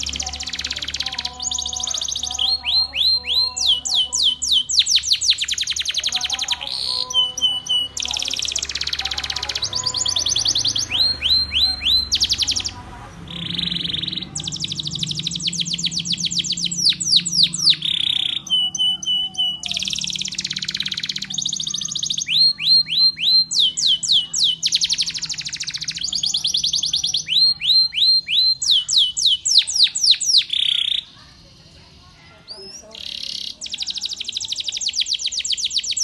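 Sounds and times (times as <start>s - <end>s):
canary singing trills: 0.0s - 36.0s.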